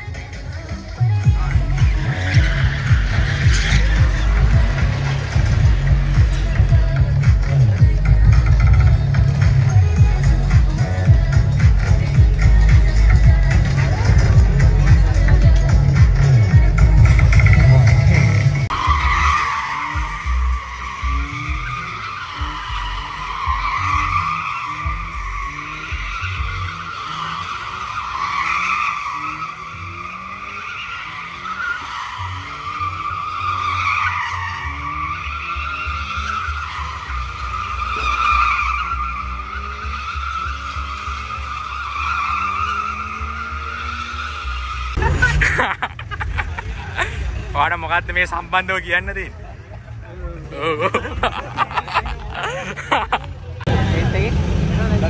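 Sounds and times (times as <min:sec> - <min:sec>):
tyres squealing: 0:00.0 - 0:53.7
car engine revving: 0:00.0 - 0:55.0.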